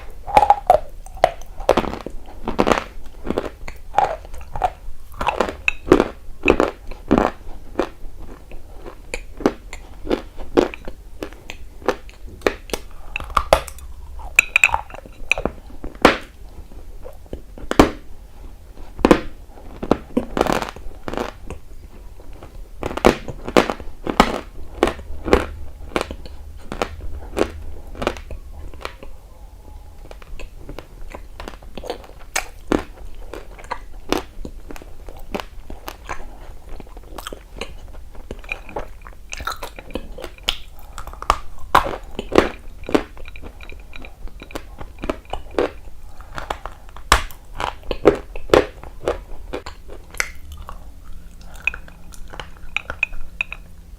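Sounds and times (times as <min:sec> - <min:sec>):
person chewing crunchy clay: 0:00.0 - 0:53.9.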